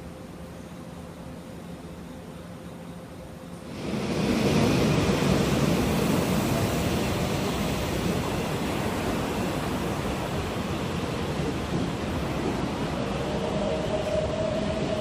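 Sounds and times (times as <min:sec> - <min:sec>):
electric train rolling past: 0:00.0 - 0:15.0.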